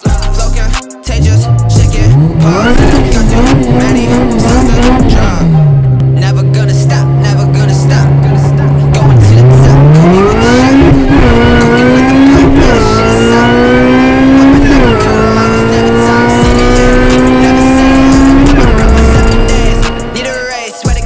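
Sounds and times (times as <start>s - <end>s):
car engine accelerating: 0.0s - 20.7s.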